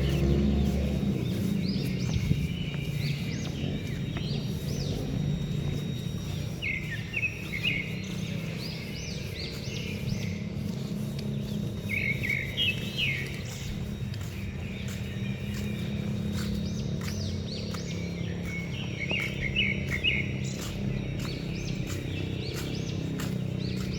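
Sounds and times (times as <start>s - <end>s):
small birds chirping: 0.0s - 23.9s
steady low hum: 0.0s - 23.9s.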